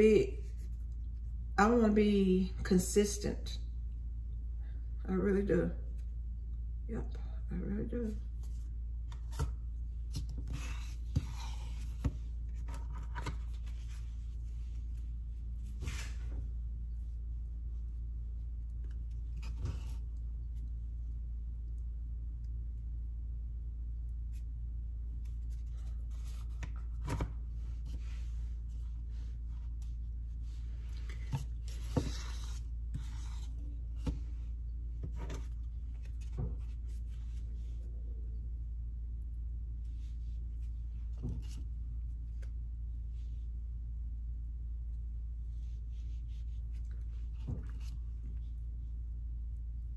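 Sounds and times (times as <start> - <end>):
low hum: 0.0 - 49.9.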